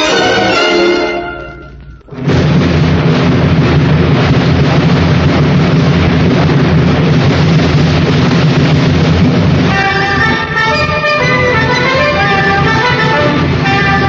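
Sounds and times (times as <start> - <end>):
loud steady rumbling: 0.0 - 14.0.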